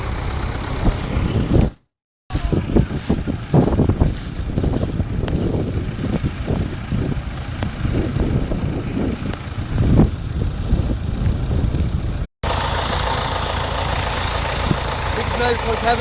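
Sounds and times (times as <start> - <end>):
tractor engine running: 0.0 - 16.0
wind buffeting microphone: 0.6 - 12.3, 13.8 - 16.0.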